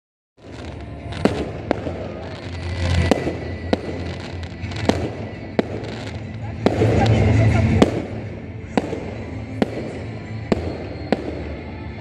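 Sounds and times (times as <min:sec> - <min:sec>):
fireworks bangs: 0:00.4 - 0:12.0.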